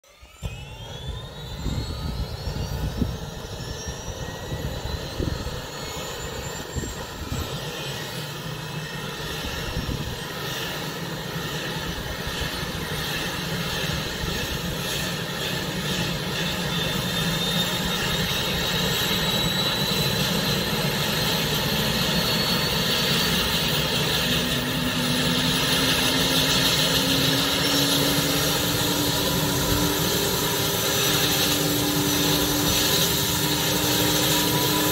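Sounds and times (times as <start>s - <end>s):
helicopter turbine whine: 0.0s - 34.9s.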